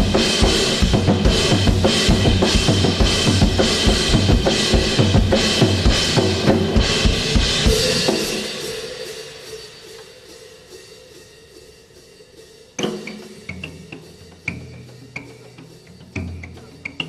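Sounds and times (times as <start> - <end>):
cymbals ringing: 0.0 - 17.0
jazz drum solo: 0.0 - 17.0.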